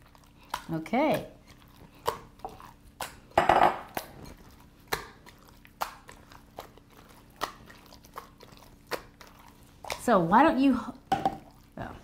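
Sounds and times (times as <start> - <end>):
slime squelching: 0.0 - 12.0.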